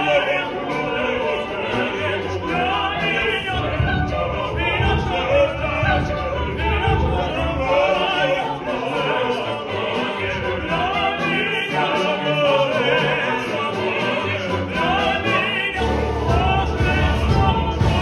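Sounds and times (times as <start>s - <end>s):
operatic ensemble singing: 0.0s - 18.0s
orchestral accompaniment: 0.0s - 18.0s.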